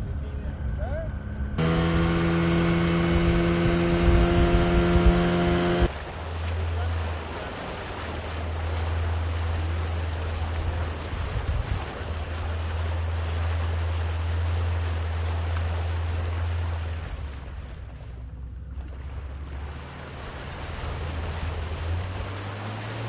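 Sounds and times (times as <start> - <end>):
outboard motor drone: 0.0 - 23.0
wind: 0.0 - 23.0
rushing water: 1.6 - 23.0.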